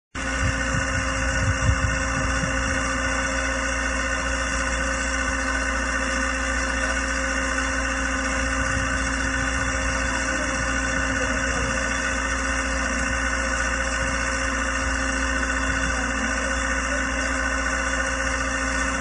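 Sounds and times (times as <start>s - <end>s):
even machine whine: 0.2s - 19.0s
low engine drone: 0.2s - 19.0s.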